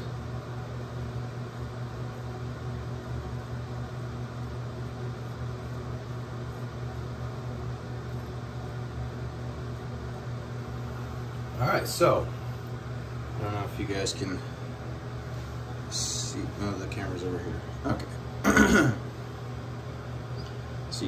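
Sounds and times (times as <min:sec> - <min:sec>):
ventilation fan humming: 0:00.0 - 0:21.0.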